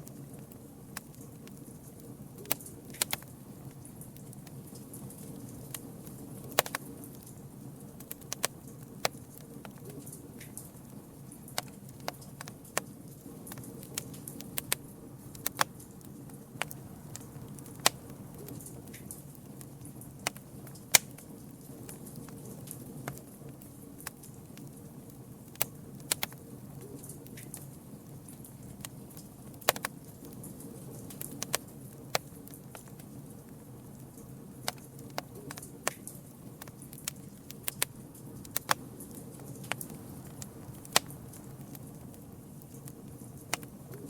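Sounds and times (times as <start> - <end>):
campfire pops and snaps: 0.0 - 44.0
low rumble of flames: 0.0 - 44.0.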